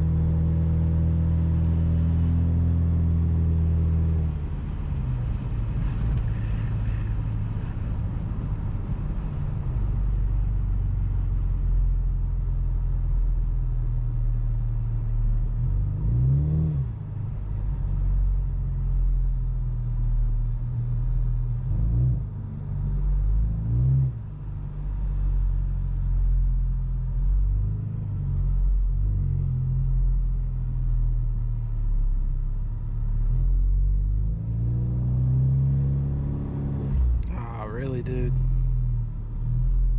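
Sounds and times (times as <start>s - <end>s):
car engine drone inside cabin: 0.0s - 39.9s.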